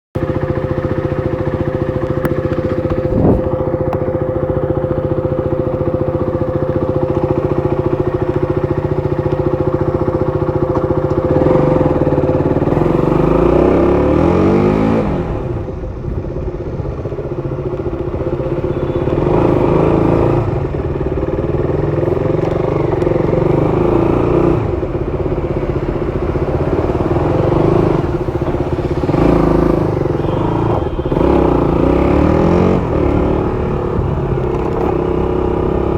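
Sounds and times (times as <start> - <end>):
motorcycle engine revving: 0.2 - 35.9.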